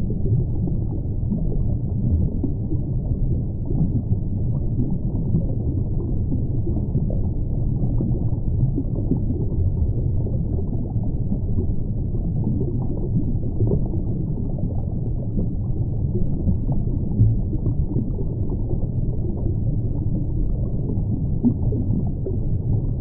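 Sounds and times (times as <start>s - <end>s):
muffled underwater rush: 0.0s - 23.0s.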